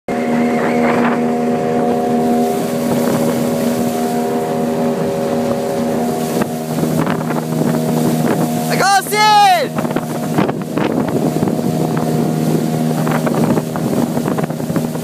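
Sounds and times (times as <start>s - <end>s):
outboard motor running: 0.1s - 15.0s
water rushing past hull: 0.1s - 15.0s
wind buffeting microphone: 0.1s - 15.0s.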